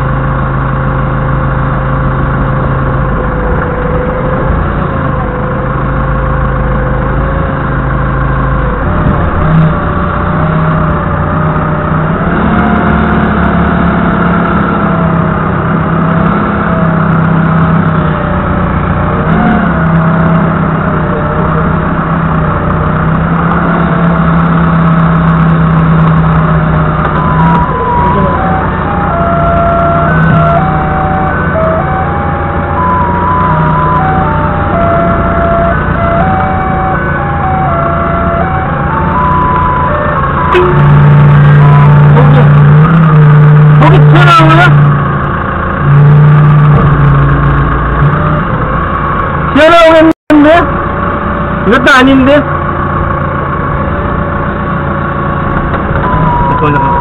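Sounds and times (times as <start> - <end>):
forklift engine idling and revving: 0.0 - 57.0.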